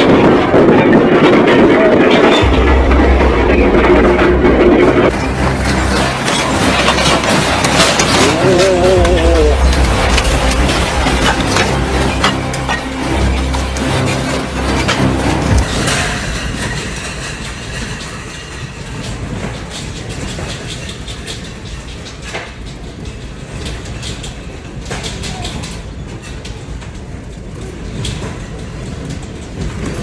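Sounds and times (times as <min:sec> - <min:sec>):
train rumble and hiss: 0:00.0 - 0:30.0.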